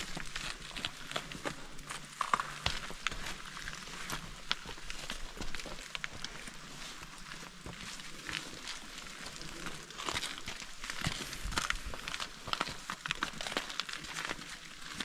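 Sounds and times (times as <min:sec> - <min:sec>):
footsteps crunching on loose rock: 0:00.0 - 0:15.0.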